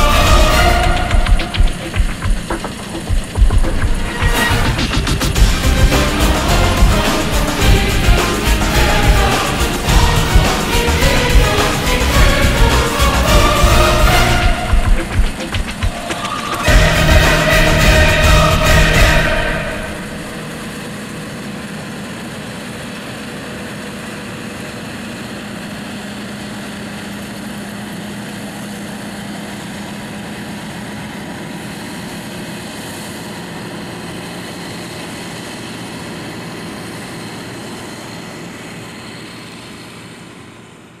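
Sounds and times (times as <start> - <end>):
combine harvester running: 0.0 - 41.0.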